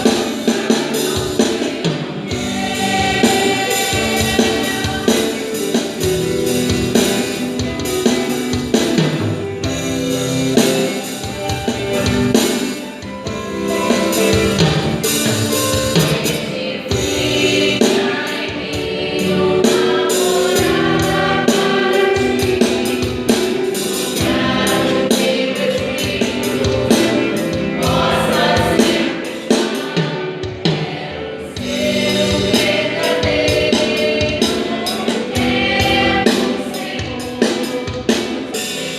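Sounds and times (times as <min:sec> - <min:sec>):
band with steady drum beat: 0:00.0 - 0:38.9
gospel group singing in harmony: 0:00.0 - 0:38.9.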